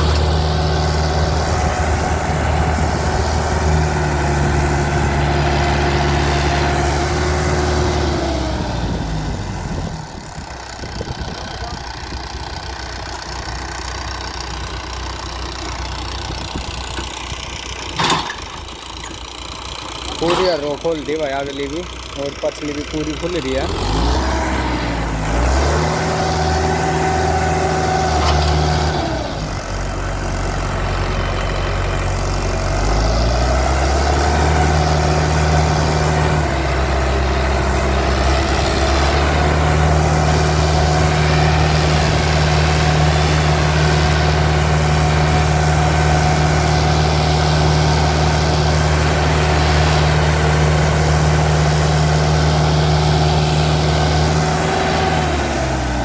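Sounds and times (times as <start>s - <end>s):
tractor diesel engine working hard: 0.0s - 56.0s.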